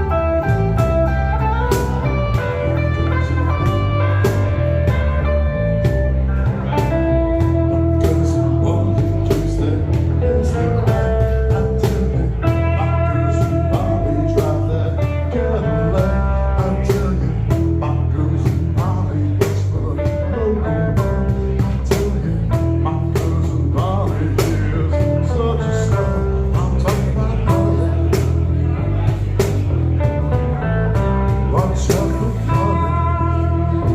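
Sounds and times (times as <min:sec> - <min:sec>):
band playing slow blues: 0:00.0 - 0:33.9
lead guitar bending notes: 0:00.0 - 0:33.9.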